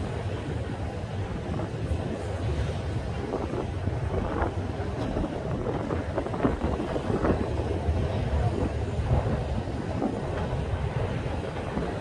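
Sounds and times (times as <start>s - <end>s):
tram running rumble: 0.0s - 12.0s
wind buffeting microphone: 0.0s - 12.0s.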